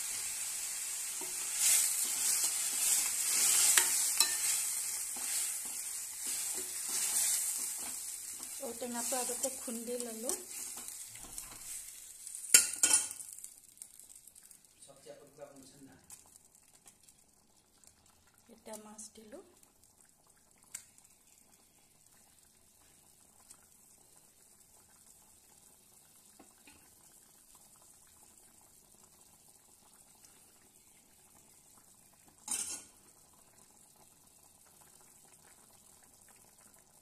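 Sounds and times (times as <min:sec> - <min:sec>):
curry simmering with bubbling hiss: 0:00.0 - 0:37.0.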